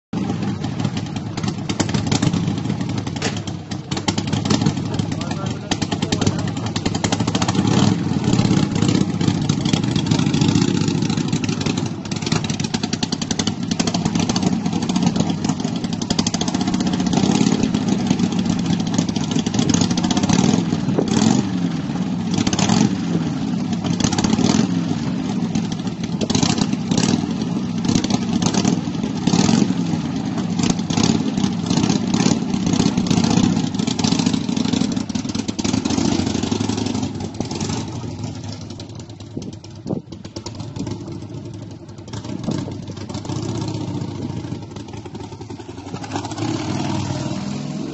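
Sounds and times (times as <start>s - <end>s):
motorcycle engine revving: 0.2s - 47.9s.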